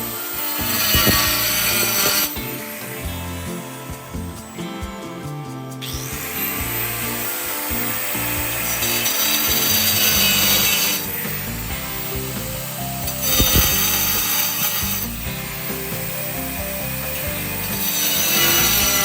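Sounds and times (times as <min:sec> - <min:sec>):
power tool running under load: 0:00.0 - 0:05.0, 0:05.8 - 0:19.0
background music: 0:00.0 - 0:19.0.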